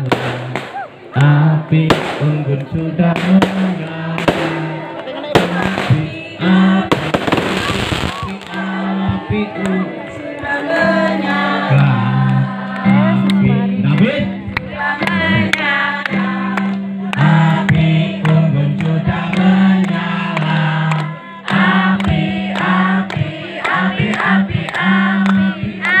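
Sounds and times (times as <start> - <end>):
group singing in chorus: 0.0 - 26.0.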